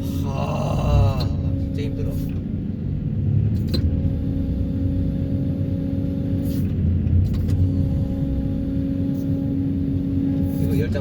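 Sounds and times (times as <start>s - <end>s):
excavator engine and hydraulic drone: 0.0s - 11.0s.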